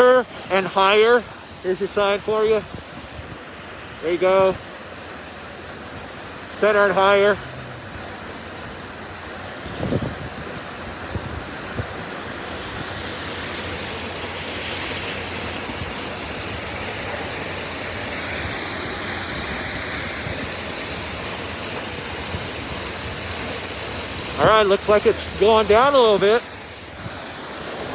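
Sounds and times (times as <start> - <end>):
water gushing from fire hydrant: 0.0 - 27.9.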